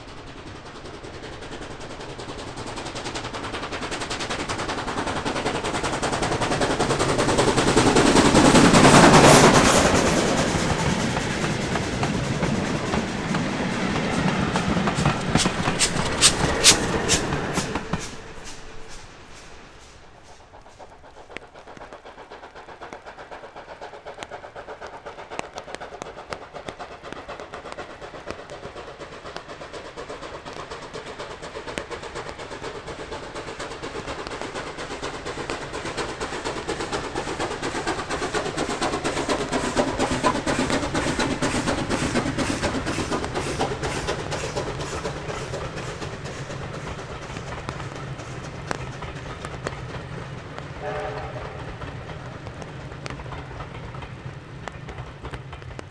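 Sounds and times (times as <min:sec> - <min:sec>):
steam train exhaust beats: 0:00.0 - 0:55.9
train wheel clatter: 0:00.0 - 0:55.9.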